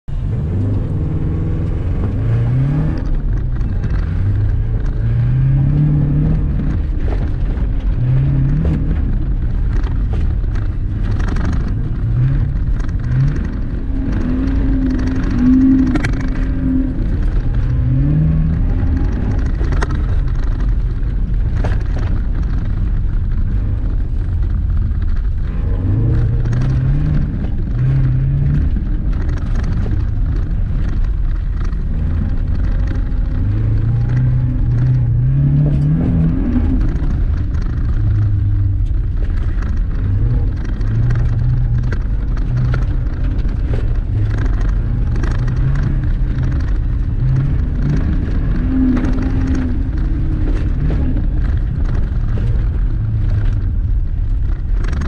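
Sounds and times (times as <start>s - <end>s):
tyre and road noise: 0.0s - 55.0s
car engine revving: 0.1s - 55.0s.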